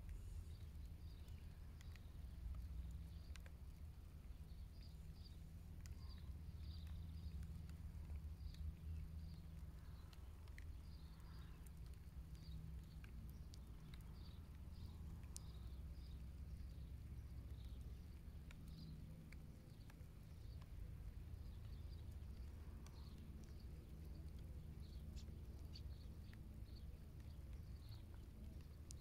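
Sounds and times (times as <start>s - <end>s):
soft clicks: 0.0s - 29.0s
steady low rumble: 0.0s - 29.0s.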